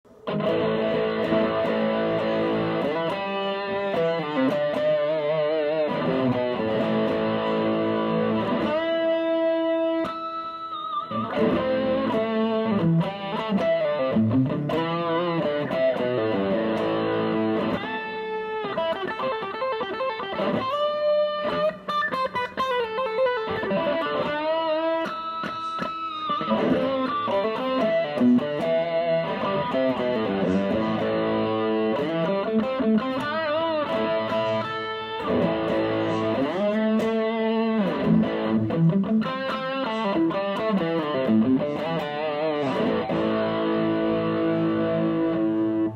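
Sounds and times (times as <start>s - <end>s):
distorted electric guitar with string bends: 0.1s - 45.9s.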